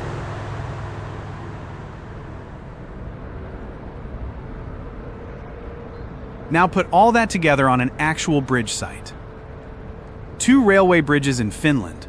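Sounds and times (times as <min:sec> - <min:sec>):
faint steady hum: 0:00.0 - 0:12.0
heavy machinery rumbling: 0:00.0 - 0:12.0.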